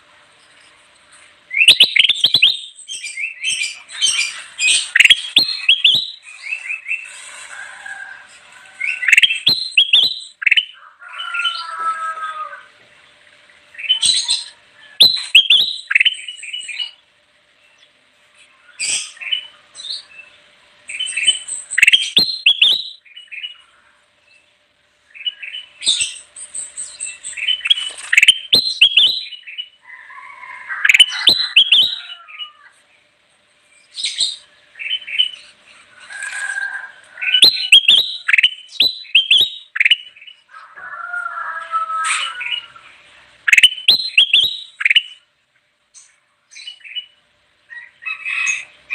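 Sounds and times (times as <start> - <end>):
bird low warbling: 0.0 - 32.8, 33.9 - 45.3
bird chirpy song: 0.2 - 7.5, 8.3 - 11.8, 13.0 - 40.6, 42.0 - 45.3, 45.9 - 48.9.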